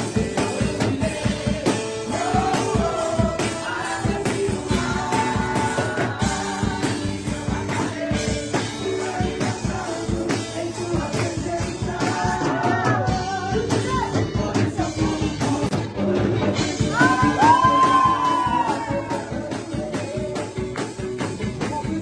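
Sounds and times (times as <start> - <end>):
singers singing: 0.0 - 22.0
worship band playing: 0.0 - 22.0.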